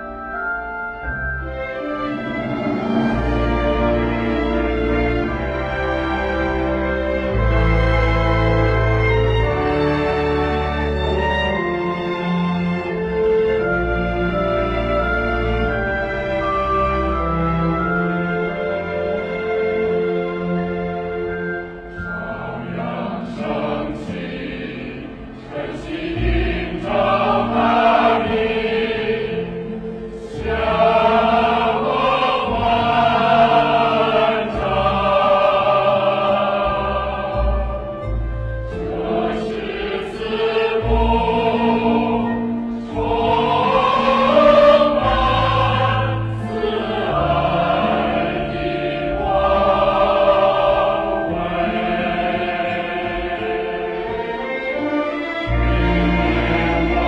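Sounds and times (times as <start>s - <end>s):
choir singing: 1.4s - 57.0s.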